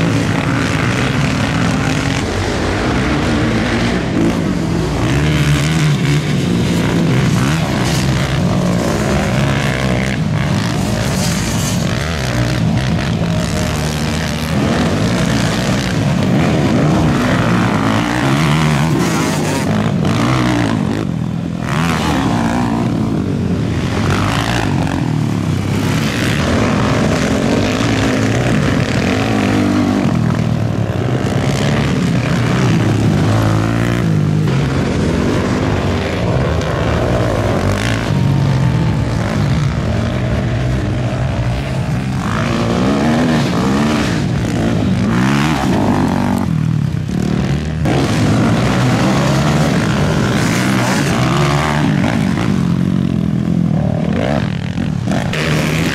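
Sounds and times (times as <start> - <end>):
atv engines revving: 0.0 - 55.9.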